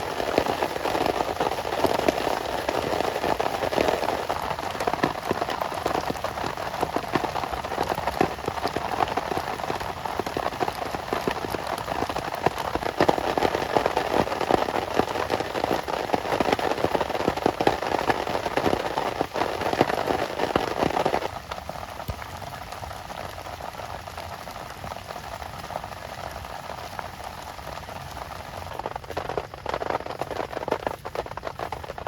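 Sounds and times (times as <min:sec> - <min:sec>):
heavy rain drumming: 0:00.0 - 0:32.0.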